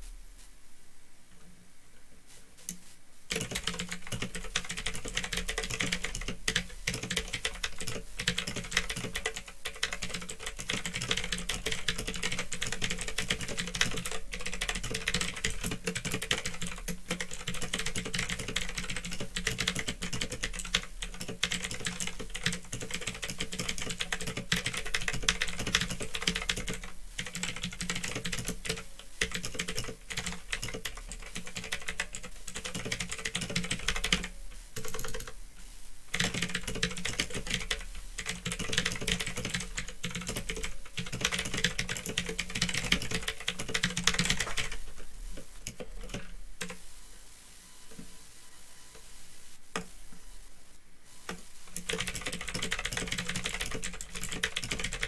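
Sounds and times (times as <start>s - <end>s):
fast typing on mechanical keyboard: 3.3s - 35.4s, 36.1s - 44.9s, 51.7s - 55.0s.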